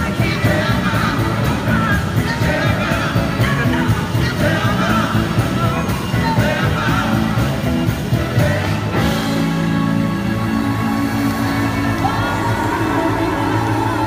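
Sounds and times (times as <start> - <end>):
drums: 0.0 - 14.0
electric guitars: 0.0 - 14.0
horns: 0.0 - 14.0
live soul band playing: 0.0 - 14.0.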